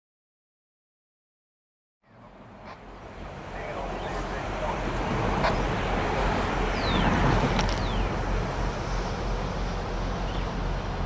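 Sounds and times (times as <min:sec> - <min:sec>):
diesel locomotive engine rumble: 0:02.1 - 0:11.0.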